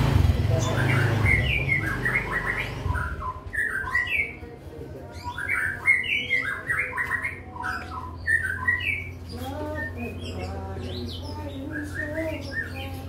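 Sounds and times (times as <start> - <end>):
bird chirping: 0.2 - 13.0.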